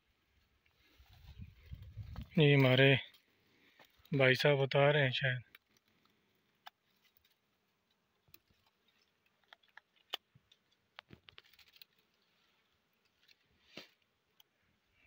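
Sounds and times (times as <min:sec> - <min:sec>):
dry twigs rustling: 0:00.3 - 0:04.4, 0:05.4 - 0:14.6.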